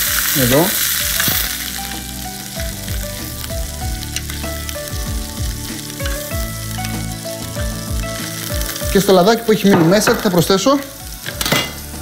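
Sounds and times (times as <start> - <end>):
background music with a beat: 0.0 - 12.0
oil sizzling in a frying pan: 0.0 - 12.0.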